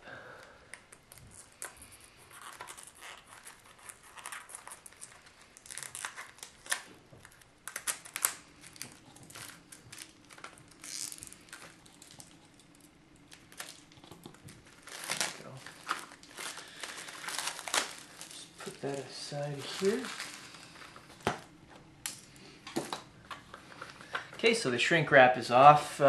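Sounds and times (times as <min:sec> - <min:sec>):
plastic wrap crinkling and tearing: 0:00.8 - 0:24.2.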